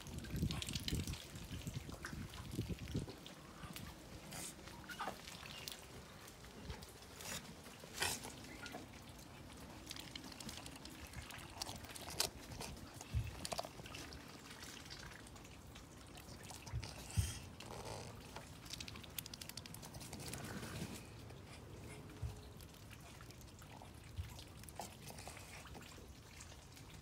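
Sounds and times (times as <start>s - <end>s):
duck bills slurping through water: 0.0s - 27.0s
small splashes and drips: 0.0s - 27.0s.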